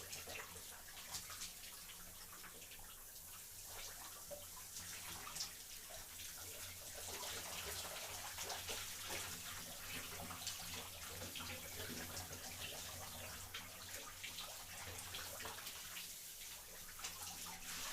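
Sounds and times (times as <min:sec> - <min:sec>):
water splashes and drips: 0:00.0 - 0:17.9.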